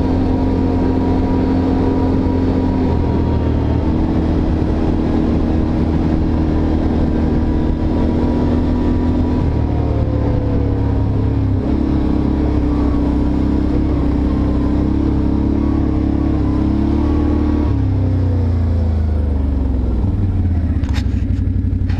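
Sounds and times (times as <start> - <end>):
atv engine running: 0.0 - 21.9.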